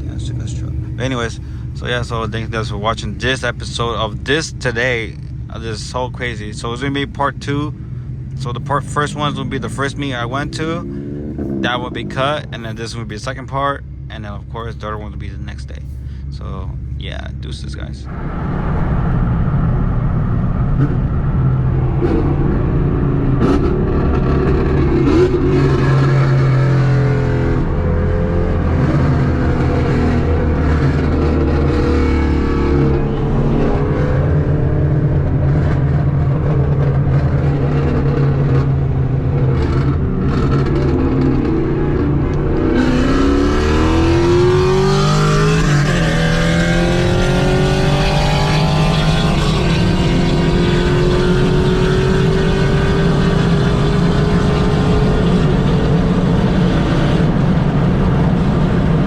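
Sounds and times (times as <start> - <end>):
car engine revving: 0.0 - 59.0
road noise: 0.0 - 59.0.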